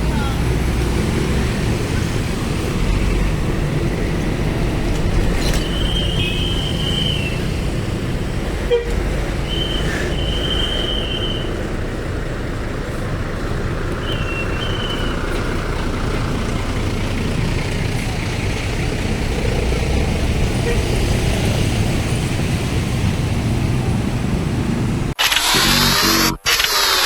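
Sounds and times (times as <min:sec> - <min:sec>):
heavy vehicle engines: 0:00.0 - 0:27.0
road traffic noise: 0:00.0 - 0:27.0.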